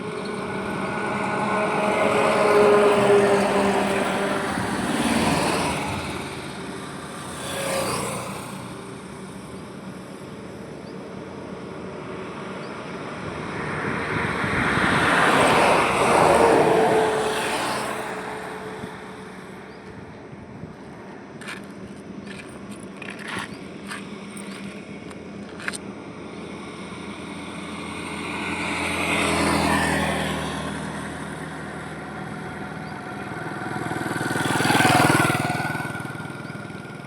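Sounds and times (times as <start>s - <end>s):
highway vehicles passing: 0.0s - 37.0s.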